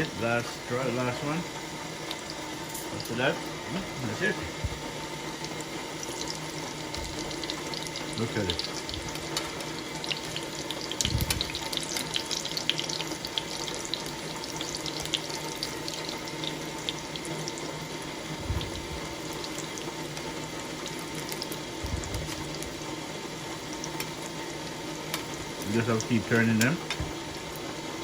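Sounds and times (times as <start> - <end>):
fish sizzling in hot oil: 0.0 - 28.0.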